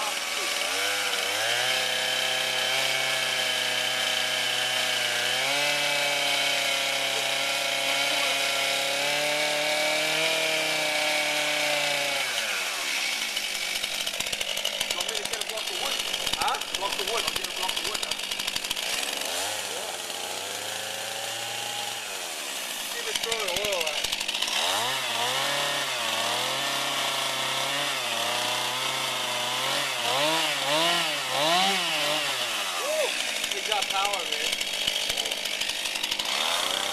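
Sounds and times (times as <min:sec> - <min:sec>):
chainsaw engine revving and idling: 0:00.0 - 0:36.9.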